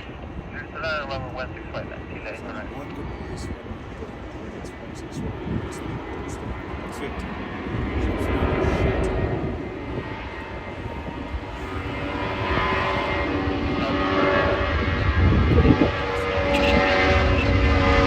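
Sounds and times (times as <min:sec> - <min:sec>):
jet engine whining tones: 0:00.0 - 0:18.0
jet engines rumbling: 0:00.0 - 0:18.0.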